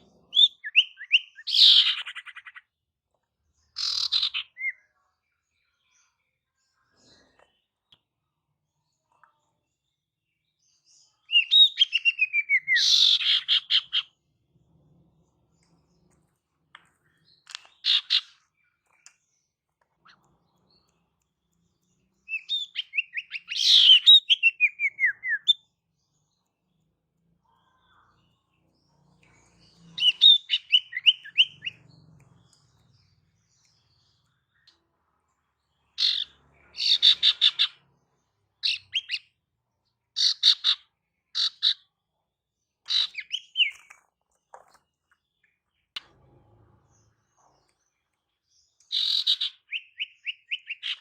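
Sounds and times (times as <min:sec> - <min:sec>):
bird chirping calls: 0:00.0 - 0:02.8, 0:03.6 - 0:08.2, 0:08.8 - 0:51.0.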